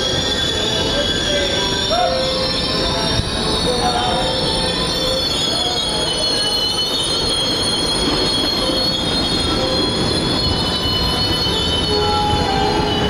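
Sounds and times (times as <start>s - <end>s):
low train rumble: 0.0s - 13.0s
train wheels squealing: 0.0s - 13.0s.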